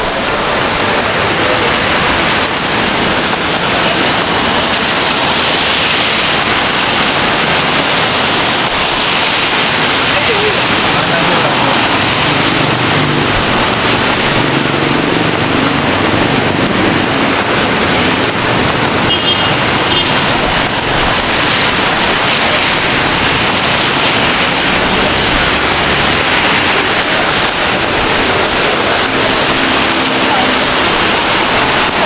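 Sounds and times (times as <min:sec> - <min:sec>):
city traffic rumble: 0:00.0 - 0:32.0
rain hiss: 0:00.0 - 0:32.0.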